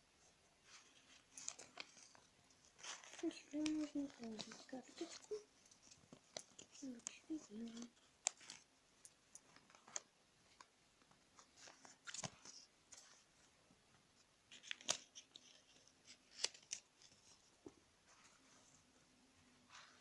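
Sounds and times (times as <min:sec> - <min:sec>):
paper rustling and crinkling: 0:00.2 - 0:08.7, 0:09.3 - 0:13.5, 0:14.1 - 0:18.9.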